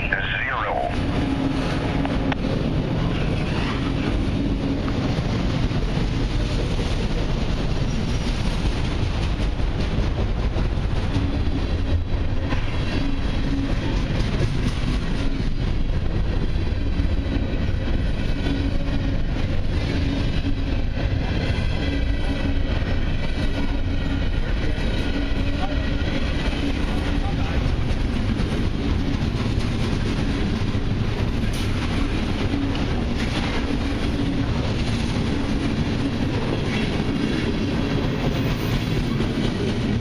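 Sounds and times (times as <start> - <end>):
freight train rolling past: 0.0 - 40.0
steel wheels rattling on rails: 0.9 - 40.0.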